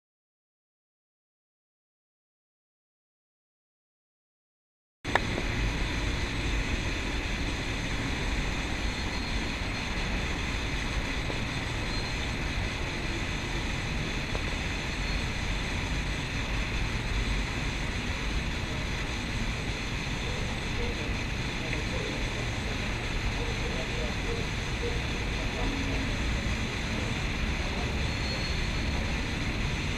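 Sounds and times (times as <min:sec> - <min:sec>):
electric train rumbling: 0:05.1 - 0:29.9.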